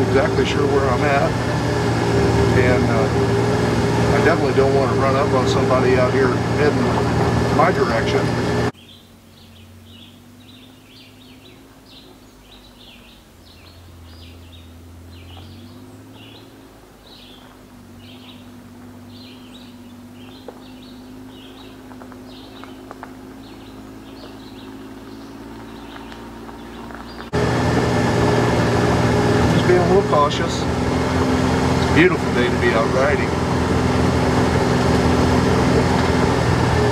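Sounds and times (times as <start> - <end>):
birds chirping: 0.0 - 36.9
vehicle engine humming: 0.0 - 36.9.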